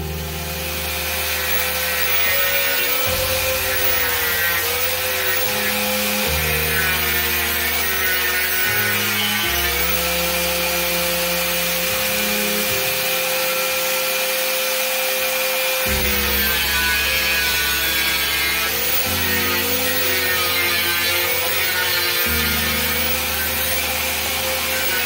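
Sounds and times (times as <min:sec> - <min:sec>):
angle grinder grinding wood: 0:00.0 - 0:25.0.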